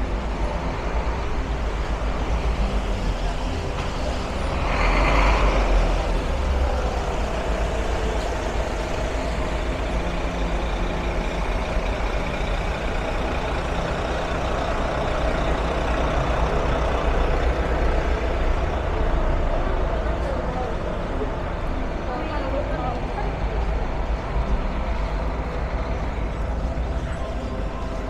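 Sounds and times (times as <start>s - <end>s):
heavy vehicle engine rumbling: 0.0s - 28.0s
street traffic: 0.0s - 28.0s.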